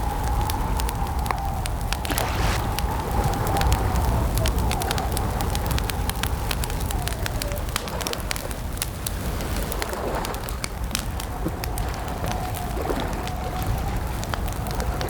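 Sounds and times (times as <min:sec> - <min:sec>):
campfire crackling and popping: 0:00.2 - 0:15.0.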